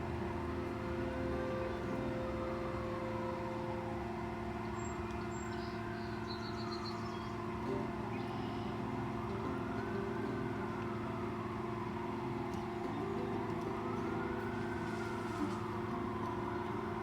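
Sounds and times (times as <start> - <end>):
road traffic hum: 0.0 - 17.0
vehicles passing: 0.0 - 17.0.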